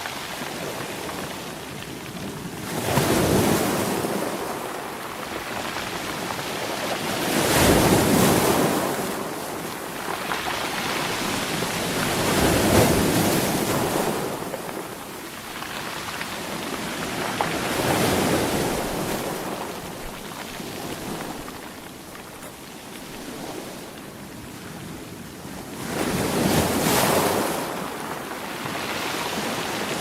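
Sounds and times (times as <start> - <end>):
sea waves breaking: 2.6 - 30.0.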